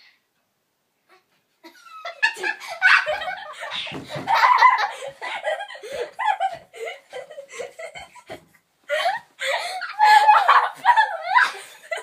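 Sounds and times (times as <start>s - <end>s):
girls laughing: 1.6s - 12.0s.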